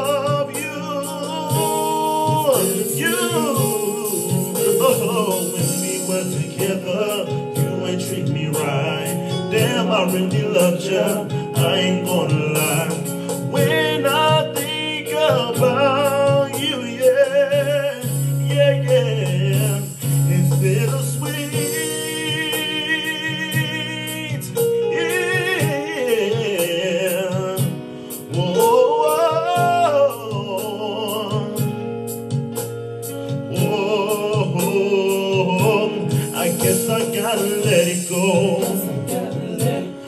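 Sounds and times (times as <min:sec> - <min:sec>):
man singing vocal runs: 0:00.0 - 0:31.8, 0:33.5 - 0:40.0
r and b backing track: 0:00.0 - 0:40.0.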